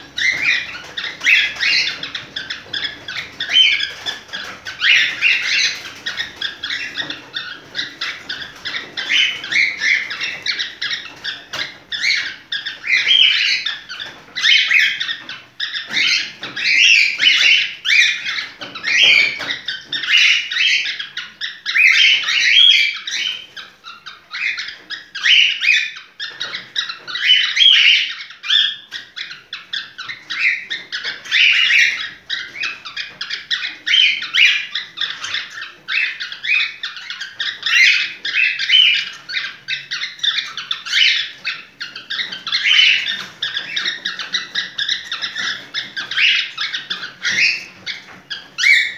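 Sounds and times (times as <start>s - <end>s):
animal squeaking and chirping: 0.0s - 48.9s.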